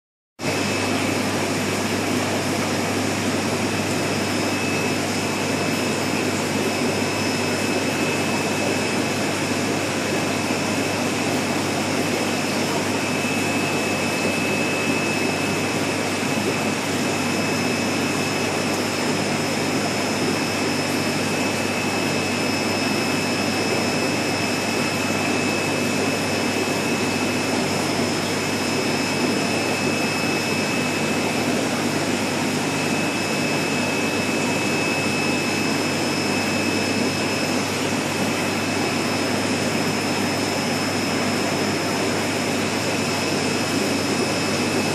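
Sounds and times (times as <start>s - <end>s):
high machine whine: 0.4s - 44.9s
low machine hum: 0.4s - 44.9s.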